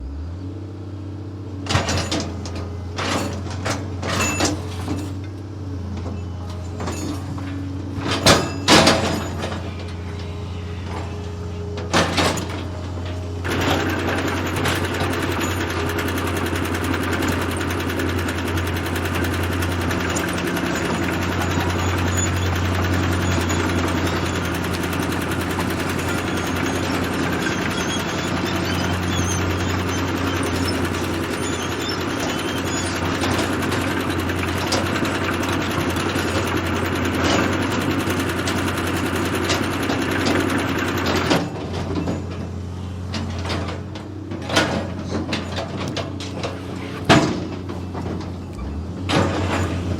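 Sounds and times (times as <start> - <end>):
heavy machine engine running: 0.0 - 49.9.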